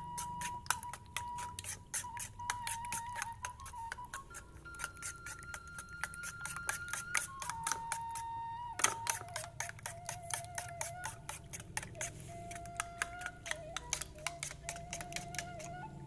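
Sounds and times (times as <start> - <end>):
slow background music: 0.0 - 16.0.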